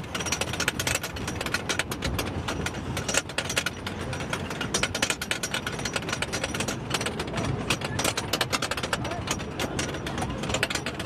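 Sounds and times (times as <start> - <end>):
low mechanical rumble: 0.0 - 11.0
roller coaster ratchet clacking: 0.0 - 11.0.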